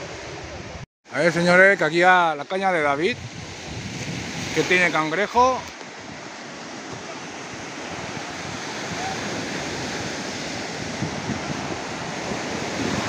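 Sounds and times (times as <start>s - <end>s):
sea surf washing on beach: 0.0s - 13.0s.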